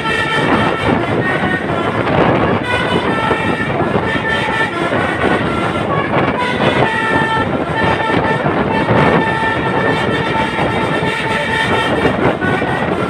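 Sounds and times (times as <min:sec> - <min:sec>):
multi-tone air horn: 0:00.0 - 0:13.0
truck engine and road noise: 0:00.0 - 0:13.0.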